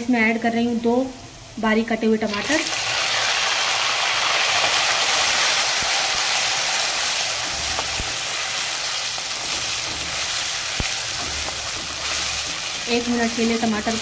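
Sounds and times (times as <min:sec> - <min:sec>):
tomatoes sizzling in oil: 0:00.0 - 0:14.0.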